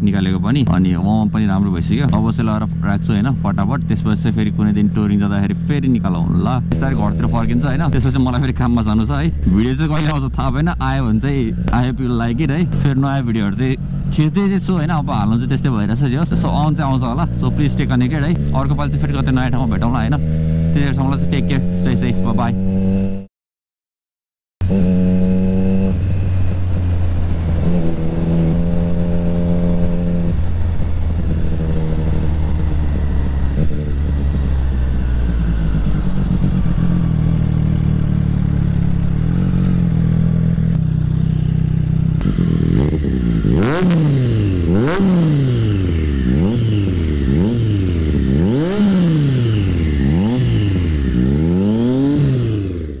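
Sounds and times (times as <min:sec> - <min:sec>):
motorcycle engine revving: 0:00.0 - 0:23.3, 0:24.6 - 0:53.0
motorcycle engine shifting gears: 0:00.0 - 0:23.3, 0:24.6 - 0:53.0
exhaust cracks: 0:00.2 - 0:22.4, 0:30.3 - 0:53.0.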